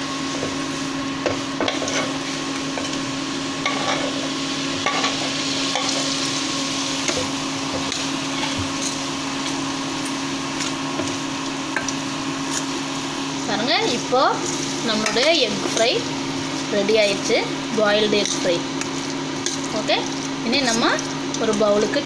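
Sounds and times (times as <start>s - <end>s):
masala sizzling in a pan: 0.0s - 22.0s
steady hum: 0.0s - 22.0s.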